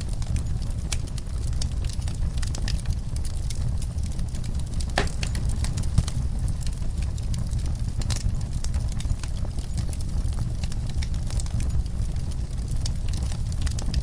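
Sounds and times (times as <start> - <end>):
wood fire crackling in fireplace: 0.0 - 14.0.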